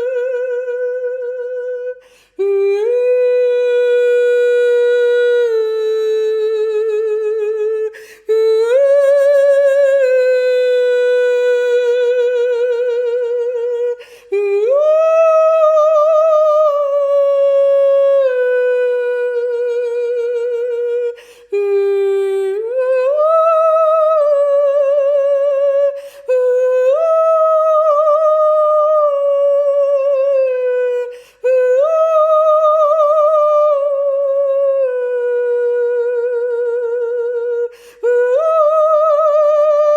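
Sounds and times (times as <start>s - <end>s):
high voice singing wordless notes: 0.0s - 39.9s.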